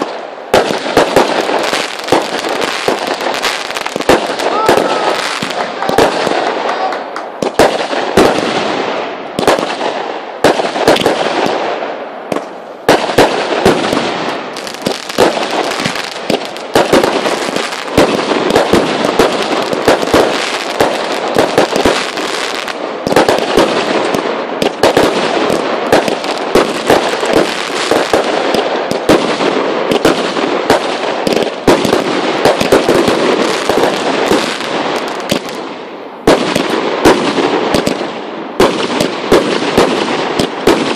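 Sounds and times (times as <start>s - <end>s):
fireworks bangs: 0.0s - 40.9s
hiss and crackle of fireworks: 0.0s - 40.9s.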